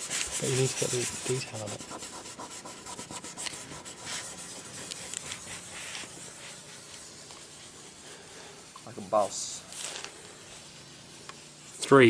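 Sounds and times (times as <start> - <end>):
scratching and rubbing on car body: 0.0 - 12.0.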